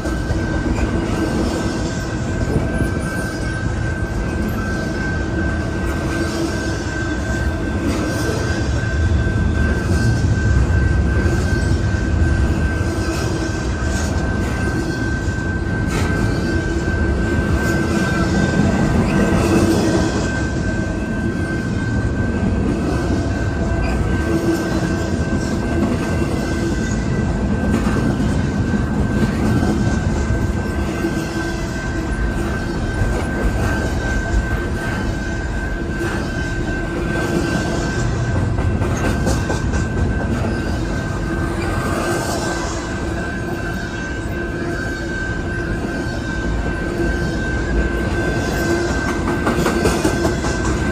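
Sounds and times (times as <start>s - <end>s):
freight train wheels rumbling on rail: 0.0s - 50.9s
high wheel squeal: 0.0s - 50.9s.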